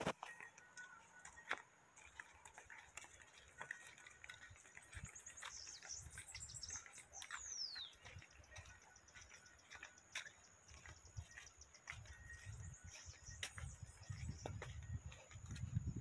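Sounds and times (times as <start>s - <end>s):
birds chirping: 0.1s - 16.0s.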